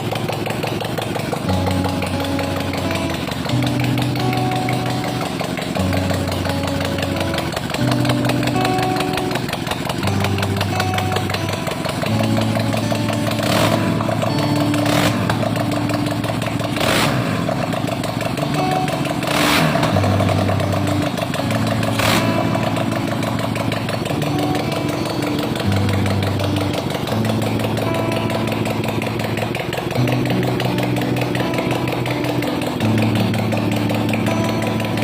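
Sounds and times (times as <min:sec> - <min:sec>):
two-cylinder scooter engine revving: 0:00.0 - 0:35.0.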